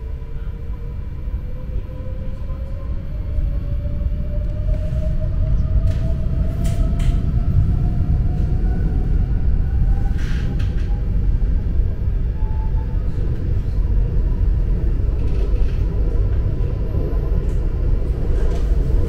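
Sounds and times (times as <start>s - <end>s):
train rumble on rails: 0.0s - 19.0s.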